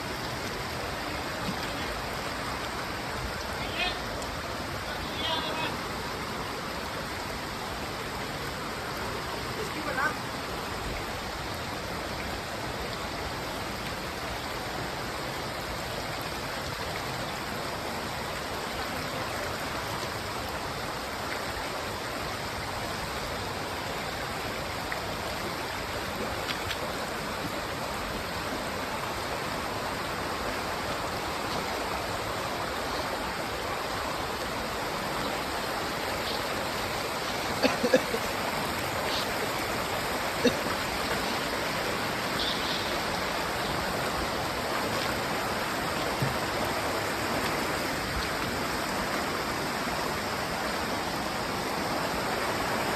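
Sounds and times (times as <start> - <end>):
stream and waterfall rushing: 0.0 - 52.9.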